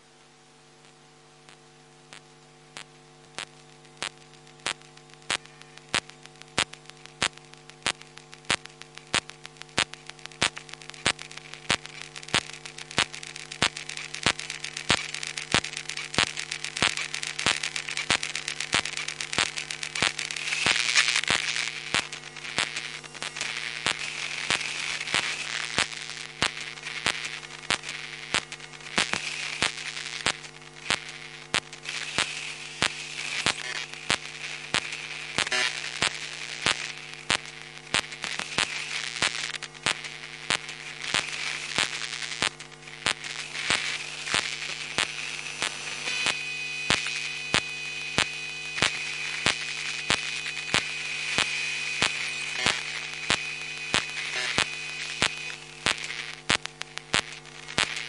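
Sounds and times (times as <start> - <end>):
crackling static hiss: 0.0 - 58.0
electrical hum: 0.0 - 58.0.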